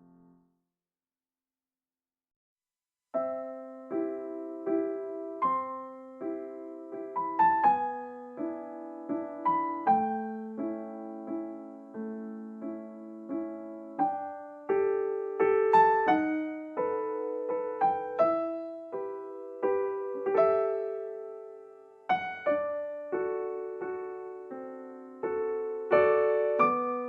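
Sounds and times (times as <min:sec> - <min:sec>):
gentle piano music: 0:03.2 - 0:27.0.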